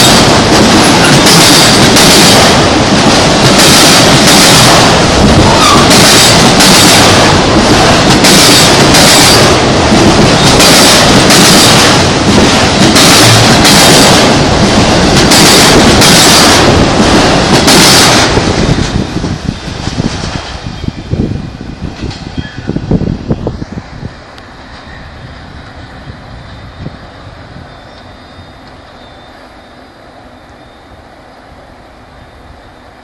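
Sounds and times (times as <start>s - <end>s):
freight train cars rolling past: 0.0s - 33.0s.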